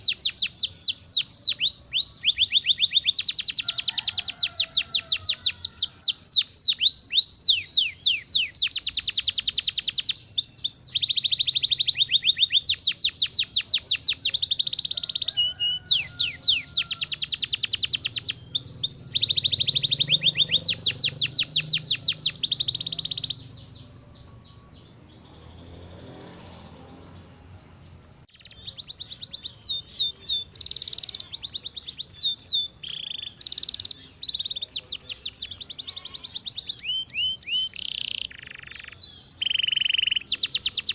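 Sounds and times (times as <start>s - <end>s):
canary singing trills: 0.0s - 27.6s, 28.2s - 40.9s.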